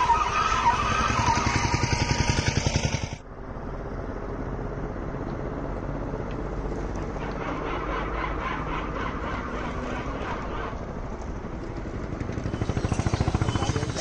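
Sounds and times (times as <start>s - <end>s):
passing vehicle throbbing: 0.0s - 14.0s
vehicle engine running: 0.6s - 14.0s.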